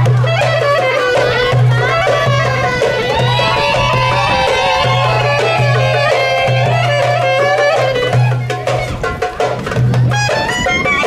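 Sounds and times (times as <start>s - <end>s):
drum strokes: 0.0s - 11.0s
sliding folk lead melody: 0.0s - 11.0s.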